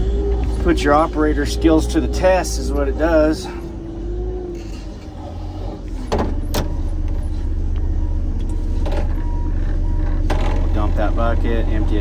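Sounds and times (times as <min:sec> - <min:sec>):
loader engine droning: 0:00.0 - 0:12.0.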